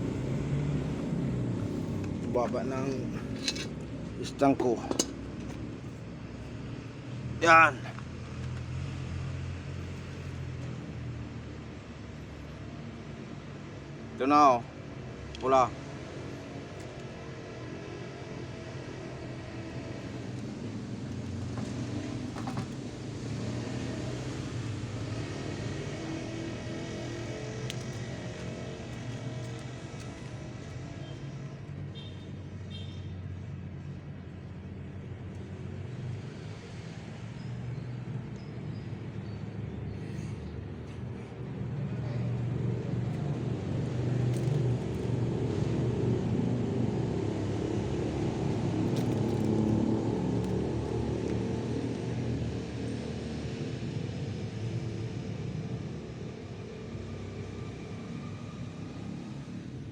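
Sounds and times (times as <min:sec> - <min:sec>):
vehicle engine humming: 0:00.0 - 0:59.8.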